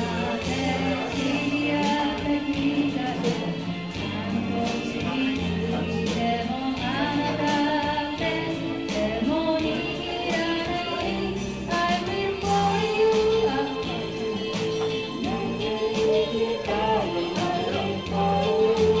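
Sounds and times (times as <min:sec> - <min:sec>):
backing track with steady beat: 0:00.0 - 0:19.0
woman singing karaoke: 0:00.0 - 0:19.0.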